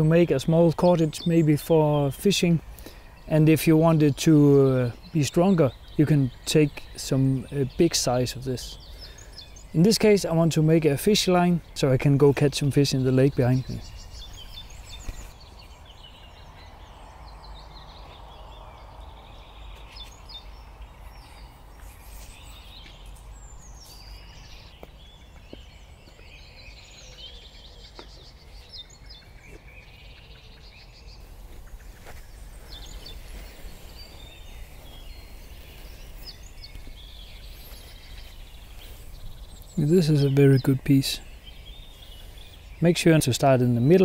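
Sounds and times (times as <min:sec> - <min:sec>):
birds chirping and calling: 0:00.0 - 0:44.0.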